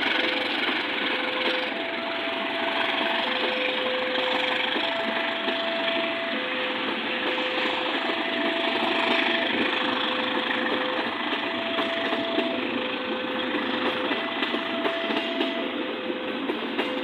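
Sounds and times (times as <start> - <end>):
train clattering on rails: 0.0 - 17.0
two-tone electronic warning signal: 0.1 - 17.0.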